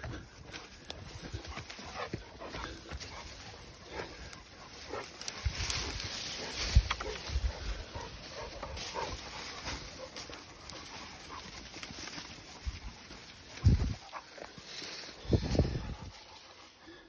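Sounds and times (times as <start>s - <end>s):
rustling ferns: 0.0s - 17.0s.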